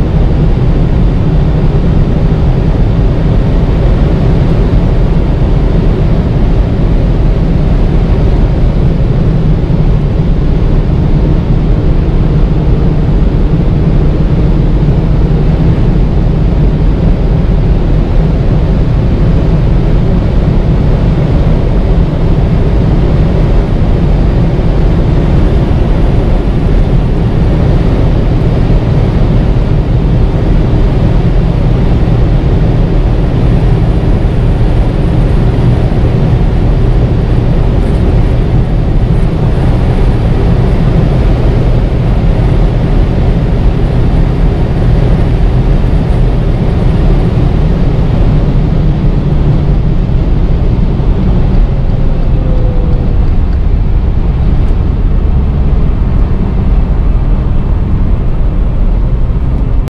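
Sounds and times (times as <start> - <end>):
car engine at speed: 0.0 - 59.9
wind noise: 0.0 - 59.9.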